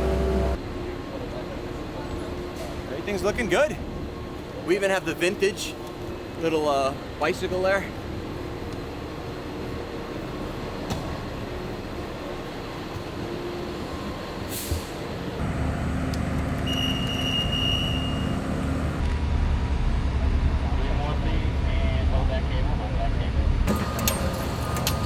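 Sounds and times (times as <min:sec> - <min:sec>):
heavy machinery engine rumbling: 0:00.0 - 0:21.6, 0:23.7 - 0:25.0.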